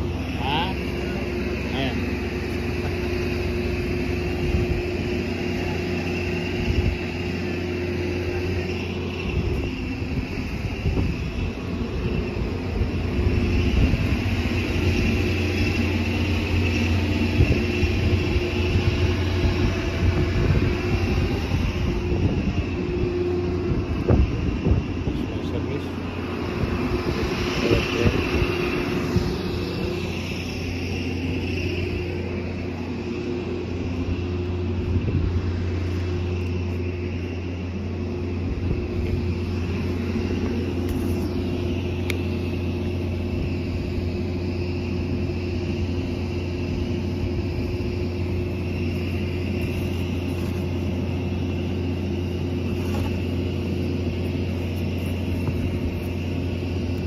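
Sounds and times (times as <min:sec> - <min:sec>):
heavy vehicle engine idling: 0:00.0 - 0:57.0.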